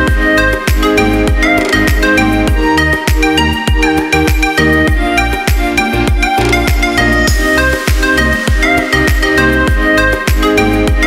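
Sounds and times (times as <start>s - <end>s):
electronic music: 0.0s - 11.0s
sustained synth chords: 0.0s - 11.0s
kick drum beat: 0.1s - 11.0s.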